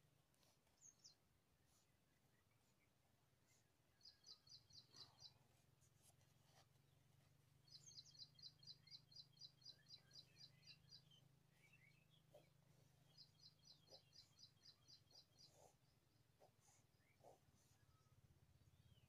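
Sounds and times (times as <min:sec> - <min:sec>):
bird chirping: 0:00.4 - 0:19.0.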